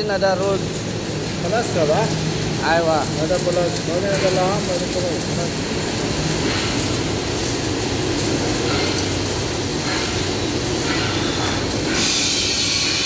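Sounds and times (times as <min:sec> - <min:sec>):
industrial fan running: 0:00.0 - 0:13.0.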